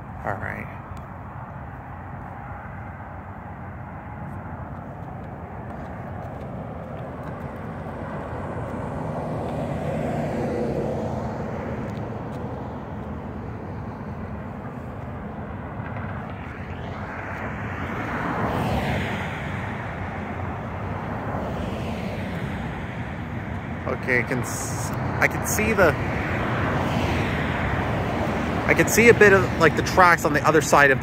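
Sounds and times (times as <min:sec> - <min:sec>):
road traffic rumble and tyre hiss: 0:00.0 - 0:31.0
vehicle passing close: 0:01.7 - 0:31.0.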